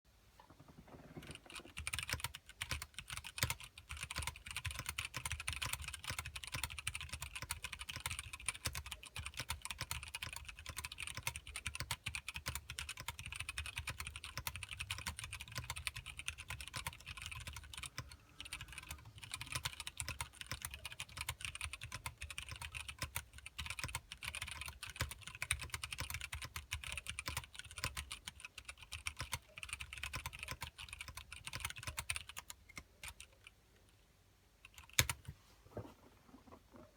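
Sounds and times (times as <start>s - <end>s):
typing on mechanical keyboard: 1.0s - 33.5s, 34.6s - 35.3s.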